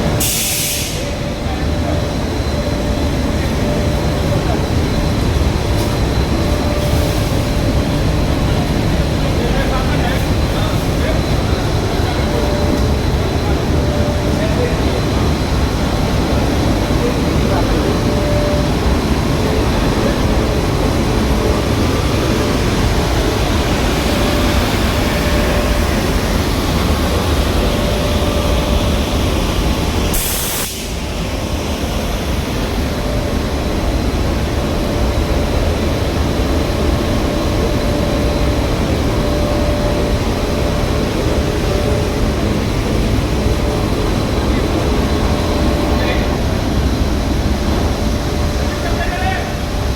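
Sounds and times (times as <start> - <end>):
industrial machine rumbling: 0.0 - 49.9.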